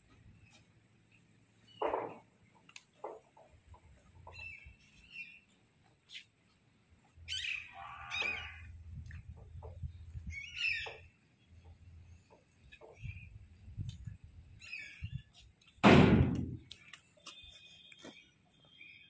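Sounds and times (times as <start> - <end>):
birds calling: 0.1 - 15.7.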